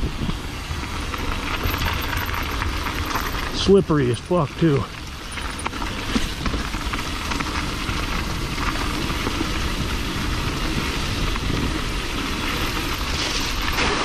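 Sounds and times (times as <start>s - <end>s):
bike tyres rolling over dirt: 0.0s - 14.0s.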